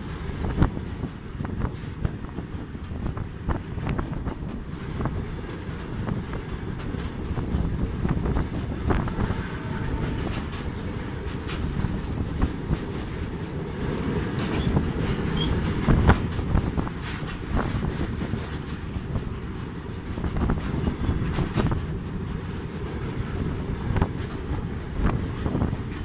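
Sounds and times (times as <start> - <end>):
train wheels rumbling on rail: 0.0 - 26.0
wheels clicking over track: 0.1 - 26.0.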